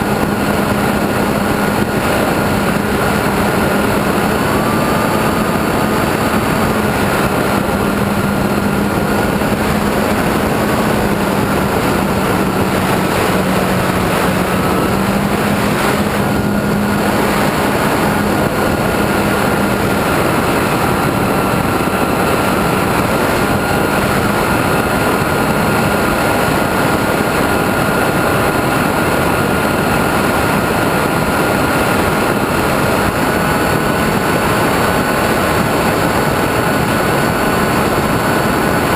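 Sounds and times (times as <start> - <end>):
model airplane motor humming: 0.0 - 38.9
wind rushing: 0.0 - 38.9.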